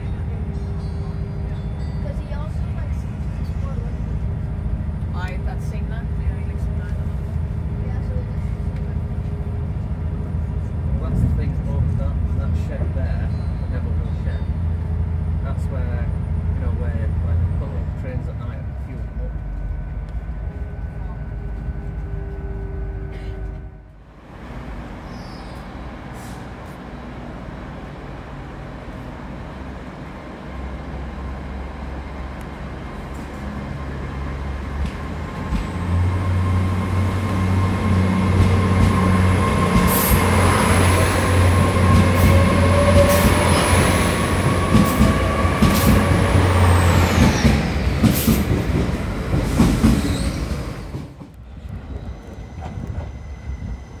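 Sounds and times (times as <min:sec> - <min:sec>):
train low drone: 0:00.0 - 0:54.0.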